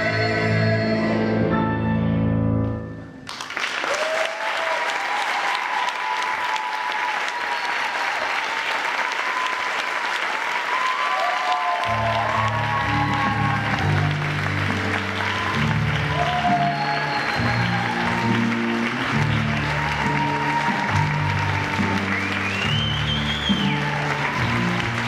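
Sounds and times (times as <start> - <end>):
audience applause: 3.2 - 25.0
people cheering: 3.5 - 25.0.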